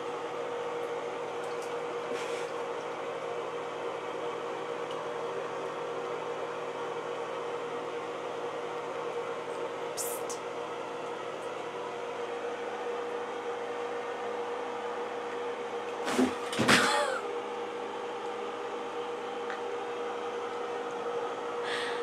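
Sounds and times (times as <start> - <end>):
machine hum with pitched tone: 0.0 - 22.0.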